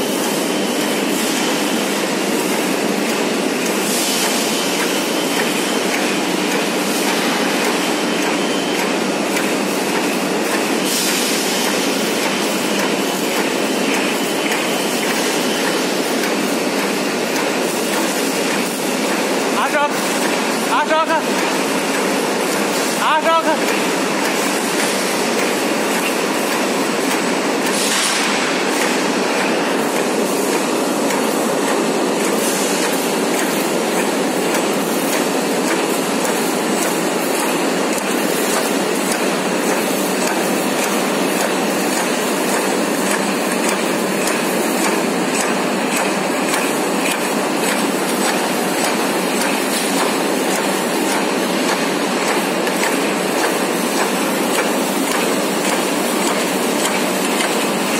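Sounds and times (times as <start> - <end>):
dense mechanical clatter of machinery: 0.0 - 57.9.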